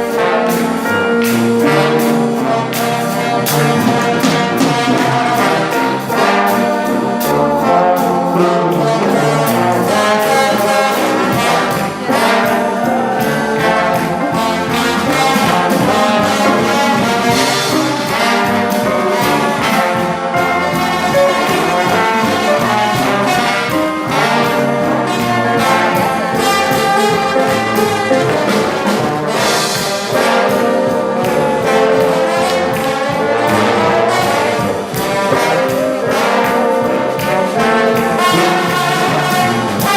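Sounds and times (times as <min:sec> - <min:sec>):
brass ensemble playing fast: 0:00.0 - 0:39.9.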